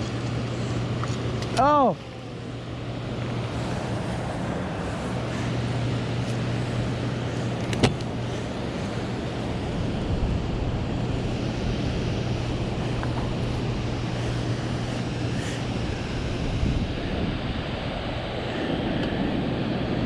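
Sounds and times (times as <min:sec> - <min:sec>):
low steady hum: 0:00.0 - 0:20.0
wind buffeting microphone: 0:02.6 - 0:20.0.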